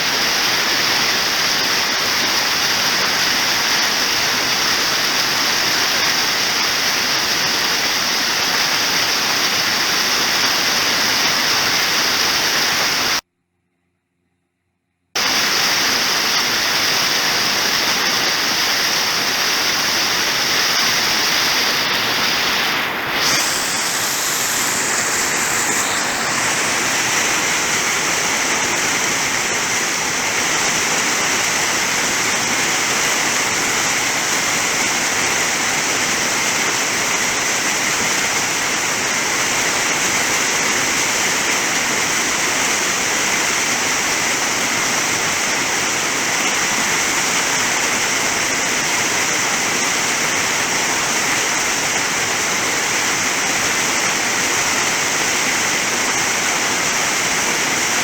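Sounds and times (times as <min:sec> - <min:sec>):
waterfall roaring: 0:00.0 - 0:13.2, 0:15.2 - 0:58.0.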